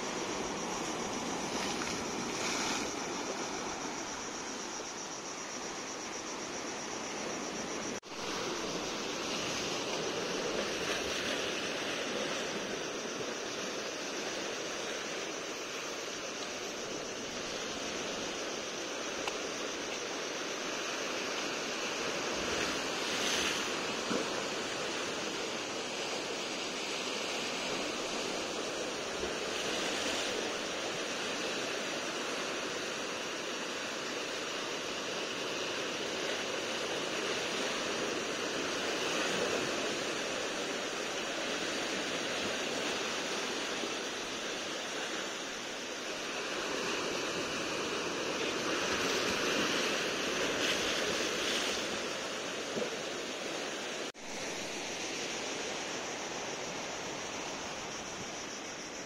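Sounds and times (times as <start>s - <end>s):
waves breaking around boulders: 0.0s - 4.6s, 6.5s - 54.2s.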